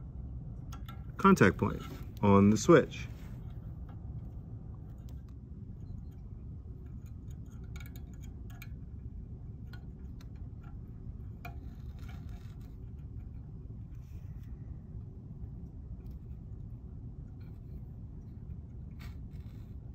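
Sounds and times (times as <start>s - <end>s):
low room rumble: 0.0s - 19.9s
wire being wrapped by hand: 0.6s - 19.9s.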